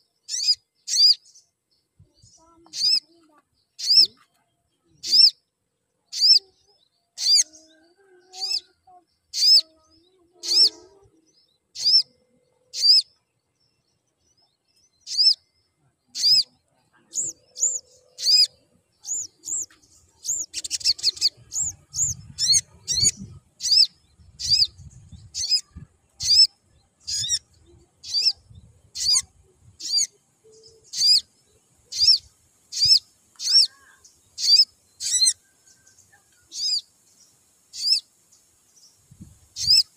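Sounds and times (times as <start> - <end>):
sunbird sharp high chirps: 0.0 - 1.5, 2.1 - 4.3, 5.0 - 5.4, 6.1 - 13.3, 14.7 - 39.9.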